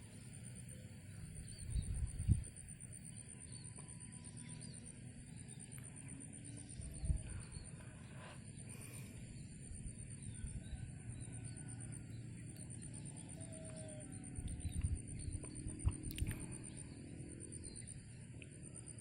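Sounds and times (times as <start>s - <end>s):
faint bird chirps: 0.1s - 19.0s.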